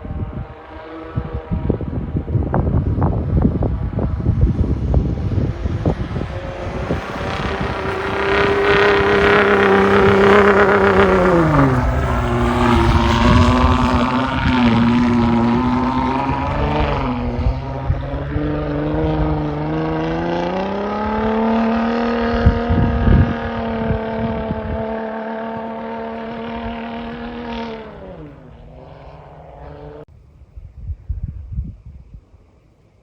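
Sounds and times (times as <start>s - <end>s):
truck engine under load: 3.2s - 30.1s.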